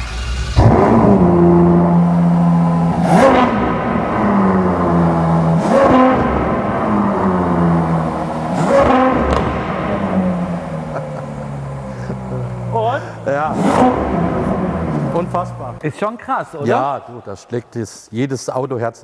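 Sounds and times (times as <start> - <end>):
car engine idling and revving: 0.0 - 15.8.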